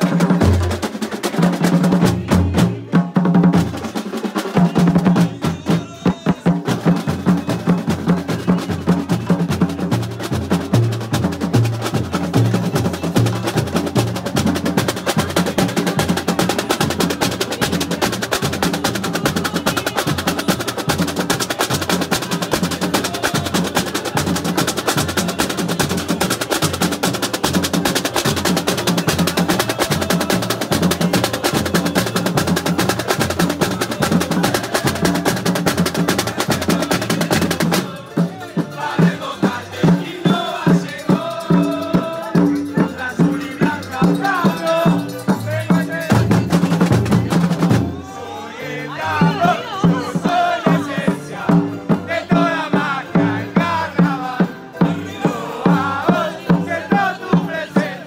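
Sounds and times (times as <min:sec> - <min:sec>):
snare drums: 0:00.0 - 0:48.1, 0:49.2 - 0:58.0
bass drums beaten with mallets: 0:04.6 - 0:48.0, 0:49.2 - 0:58.0.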